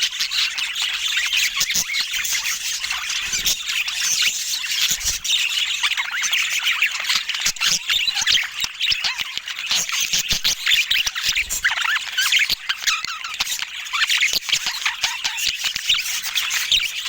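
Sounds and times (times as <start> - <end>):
budgerigars chattering: 0.0 - 17.0.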